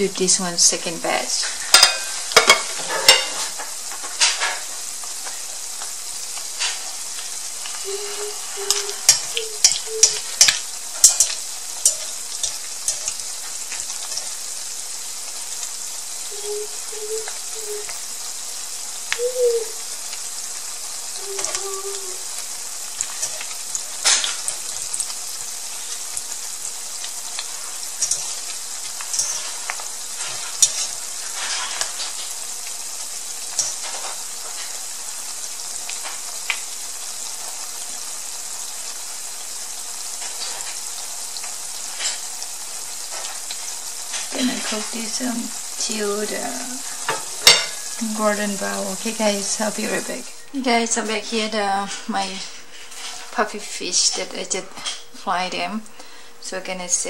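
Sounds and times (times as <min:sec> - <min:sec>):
fish deep-frying in oil: 0:00.0 - 0:57.0.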